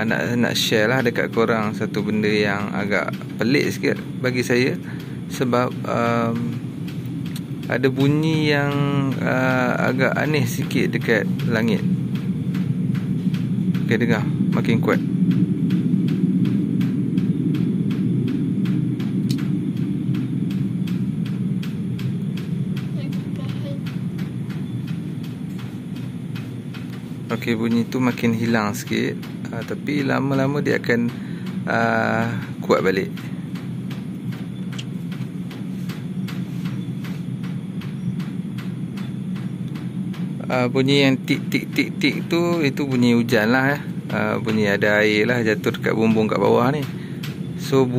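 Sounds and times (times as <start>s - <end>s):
loud low rumbling drone: 0.0s - 47.9s.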